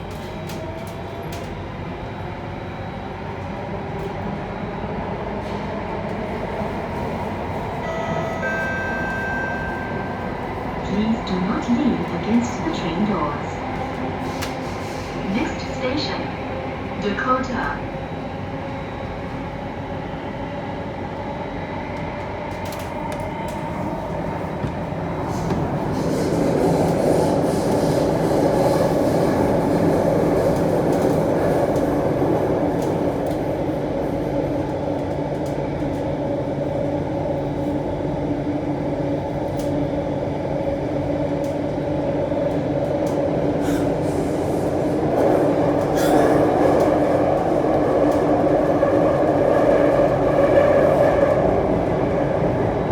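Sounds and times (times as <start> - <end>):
metro train wheels rumbling on rail: 0.0 - 52.9.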